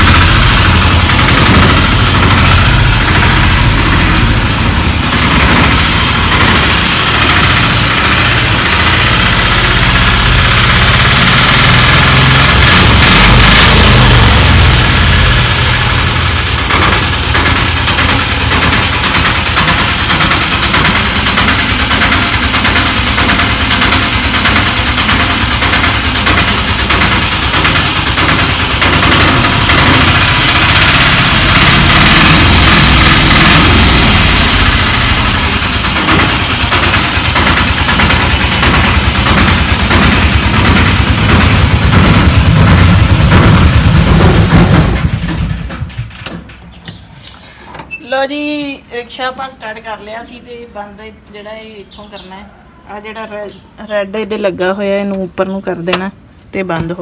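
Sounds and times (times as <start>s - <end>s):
auto rickshaw engine idling: 0.0s - 51.0s.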